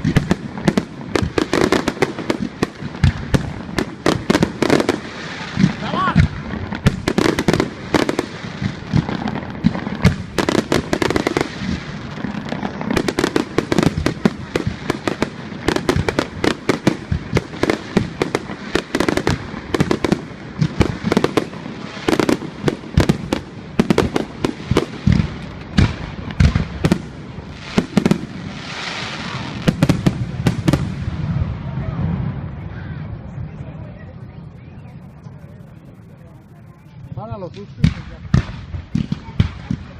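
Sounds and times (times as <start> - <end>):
fireworks bangs: 0.0 - 33.7, 34.6 - 39.9
fireworks crackle: 0.0 - 39.9.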